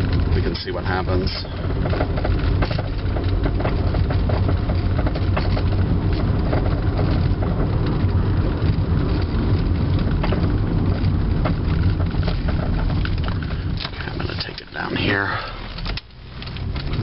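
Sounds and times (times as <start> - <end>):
stones ticking on car underside: 0.0 - 17.0
tyres rolling over gravel: 0.0 - 17.0.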